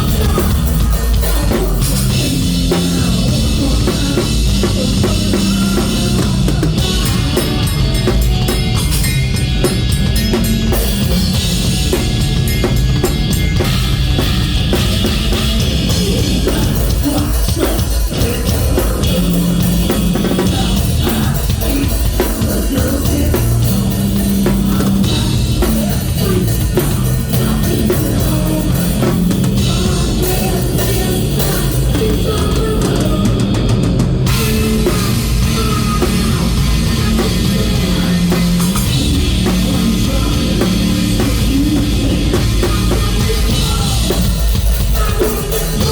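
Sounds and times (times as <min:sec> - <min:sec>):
drum kit: 0:00.0 - 0:45.9
heavy rock band playing: 0:00.0 - 0:45.9.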